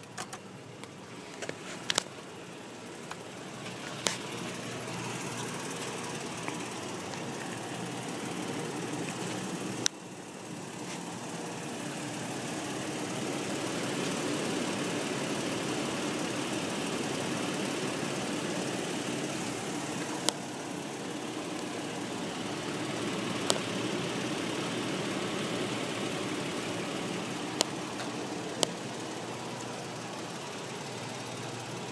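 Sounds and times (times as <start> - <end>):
pickup engine idling: 0.0 - 31.9.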